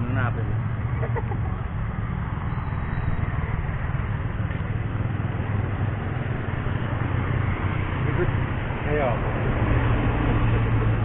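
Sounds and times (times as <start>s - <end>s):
distant motorcycle engines: 0.0s - 11.0s.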